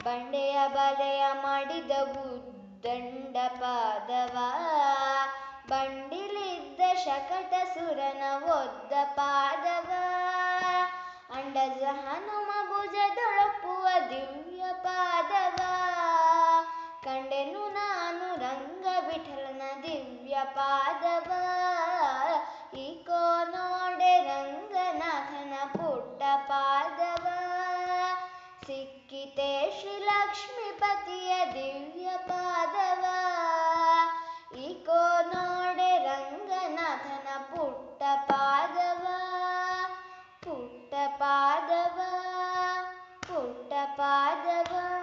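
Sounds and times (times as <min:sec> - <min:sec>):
woman singing devotional song: 0:00.0 - 0:45.0.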